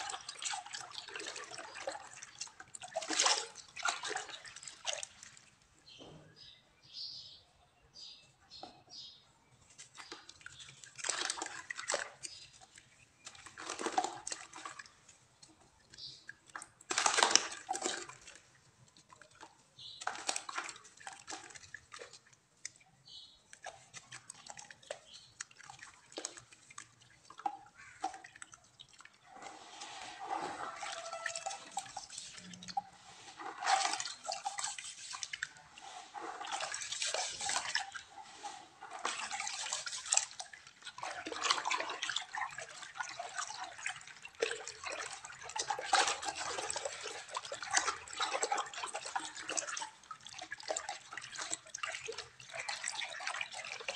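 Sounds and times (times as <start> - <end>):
hands crumbling soil in water: 0.0 - 6.1, 9.5 - 53.9
water splashing and dripping: 0.0 - 6.4, 9.6 - 53.9.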